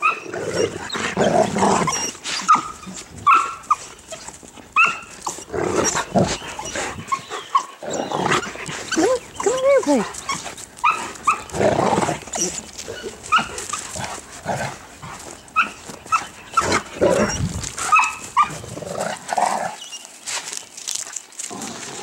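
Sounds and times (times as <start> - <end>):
low rough dog sounds: 0.0 - 19.8
dogs yipping and barking: 0.0 - 20.1.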